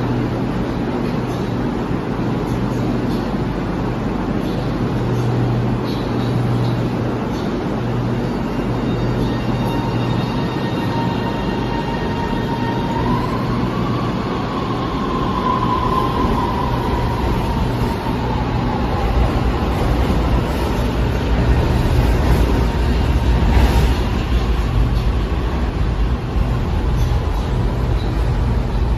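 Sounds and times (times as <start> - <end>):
train cars rumbling past: 0.0 - 28.9
train traction inverter whining: 0.0 - 28.9.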